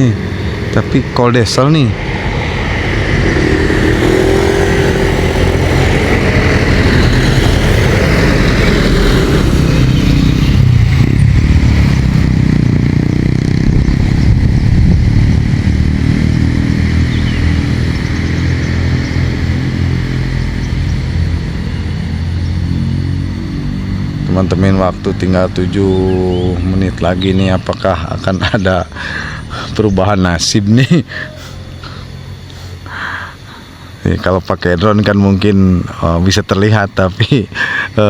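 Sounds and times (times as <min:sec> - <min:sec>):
truck diesel engine passing: 0:00.0 - 0:34.0.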